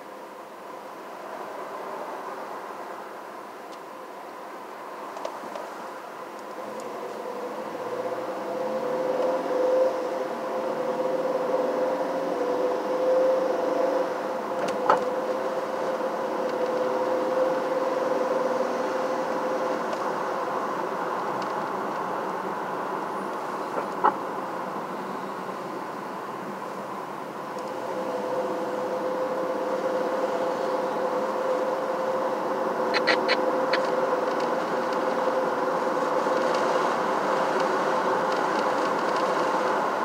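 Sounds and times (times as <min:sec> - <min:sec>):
vehicle engine and road drone: 0:00.0 - 0:40.0.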